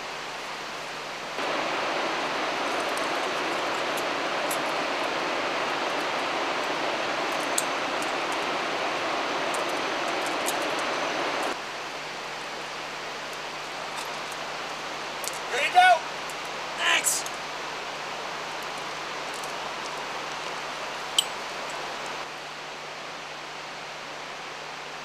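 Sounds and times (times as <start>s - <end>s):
steady rushing outdoor noise: 0.0s - 25.0s.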